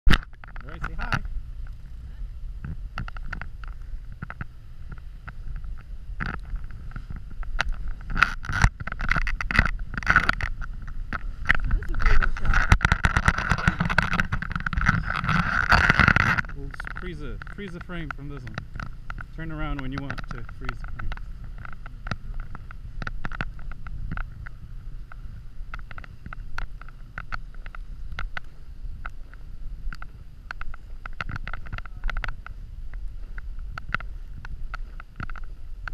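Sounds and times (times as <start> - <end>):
wind rumble on microphone: 0.1 - 35.9.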